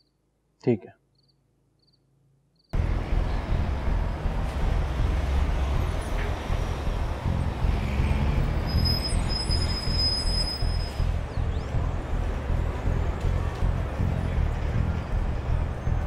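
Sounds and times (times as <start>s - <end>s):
road traffic rumbling: 2.8s - 16.0s.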